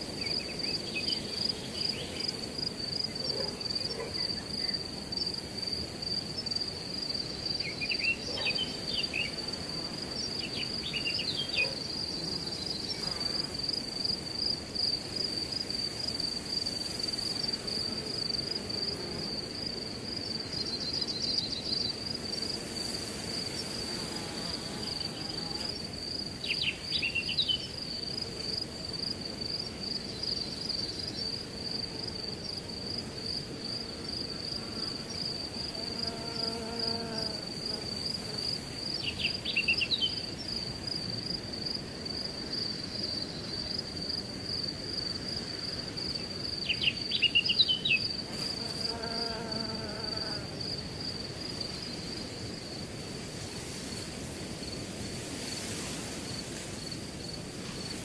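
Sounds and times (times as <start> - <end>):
crickets trilling: 0.0 - 58.0
wind in grass: 0.0 - 58.0.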